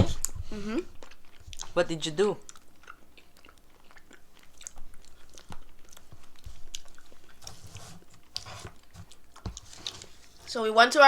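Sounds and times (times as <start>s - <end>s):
chewing chocolate: 0.1s - 10.4s.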